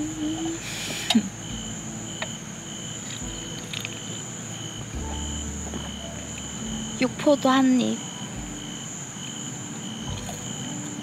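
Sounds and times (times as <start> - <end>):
insects high trill: 0.0 - 11.0
low pulsing insect chirp: 0.0 - 11.0.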